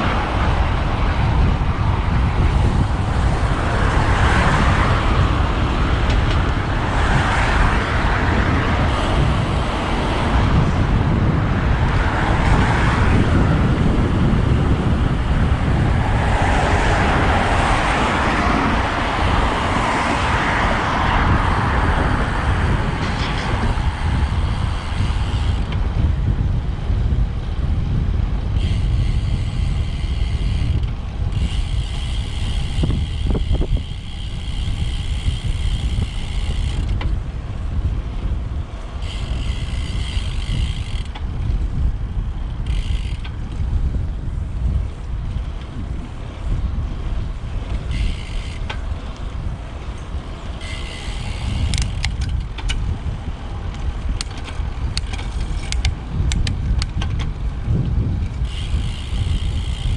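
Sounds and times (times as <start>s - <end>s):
road traffic passing: 0.0s - 59.9s
wind rumble on microphone: 0.0s - 59.9s.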